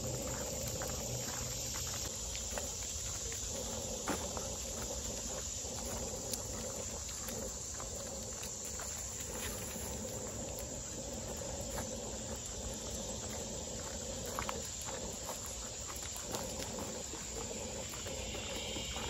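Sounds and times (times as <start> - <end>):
footsteps on leaf litter: 0.0 - 19.0
insects chorus: 0.0 - 19.0.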